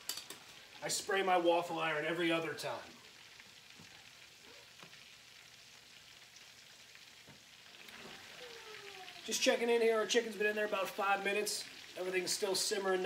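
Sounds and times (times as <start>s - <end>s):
light crackles: 0.0s - 12.8s
chicken sizzling in oil: 0.0s - 13.0s.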